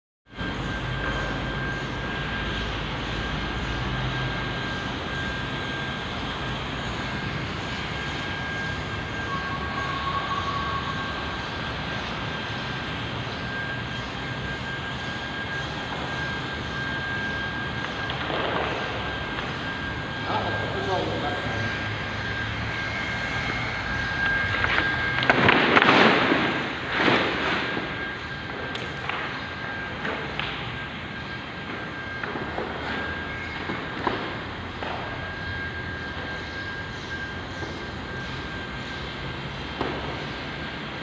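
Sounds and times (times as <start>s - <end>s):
machine motor whining: 0.4s - 41.0s.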